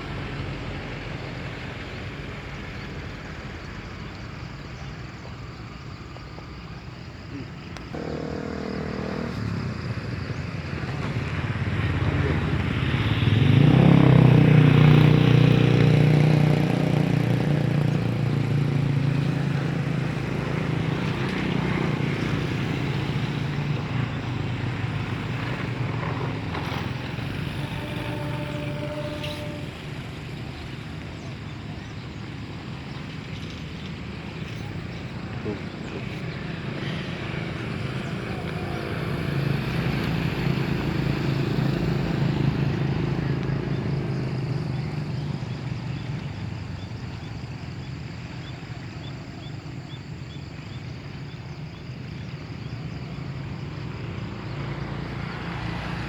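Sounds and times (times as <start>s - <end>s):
engine passing by: 7.4s - 48.9s, 49.5s - 56.0s.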